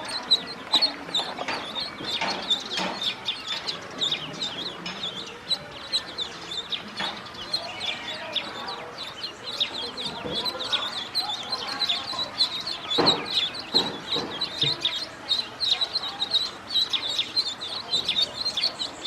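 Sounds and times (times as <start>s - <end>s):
ducklings peeping: 0.0s - 19.0s.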